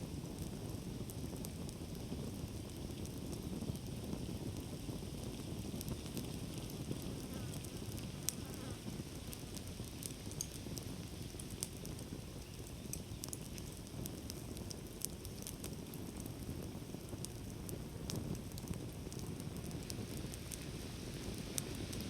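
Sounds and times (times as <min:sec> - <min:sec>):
campfire rumble: 0:00.0 - 0:22.0
fire crackles and snaps: 0:00.0 - 0:22.0
loud fire pops: 0:00.0 - 0:22.0.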